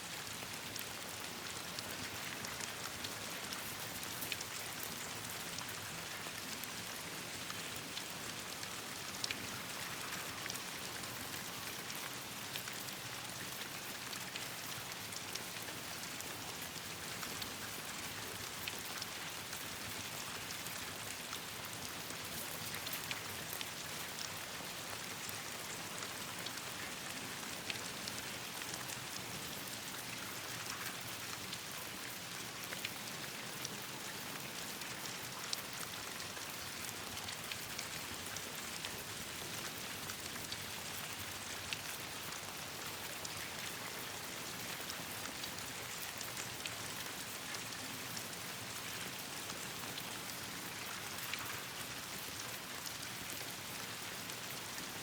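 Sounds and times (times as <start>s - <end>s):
rain pattering: 0.1s - 55.0s.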